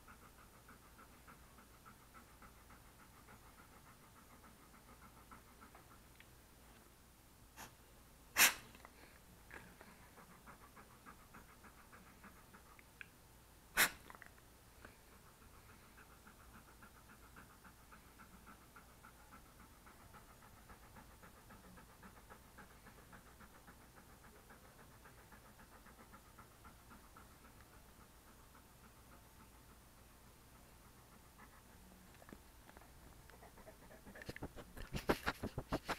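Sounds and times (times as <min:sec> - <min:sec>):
dog panting: 0:00.0 - 0:06.7, 0:08.4 - 0:13.2, 0:13.8 - 0:35.9.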